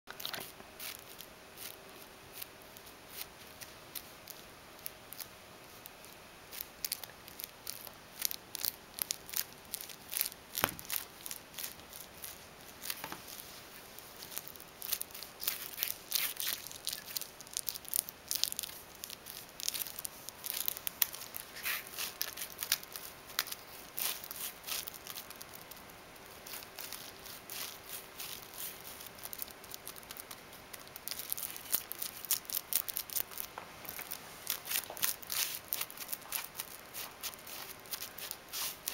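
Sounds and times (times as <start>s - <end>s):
plastic straw clicking and crinkling: 0.1s - 13.4s, 14.0s - 38.9s.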